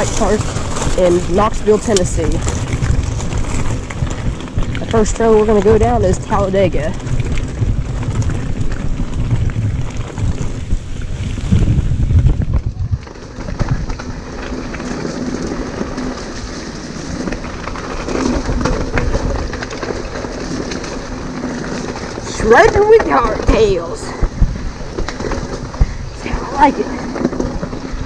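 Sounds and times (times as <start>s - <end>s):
bike rattling: 0.0s - 28.0s
tyres crunching on gravel: 0.0s - 28.0s
wind rumbling on microphone: 0.0s - 28.0s.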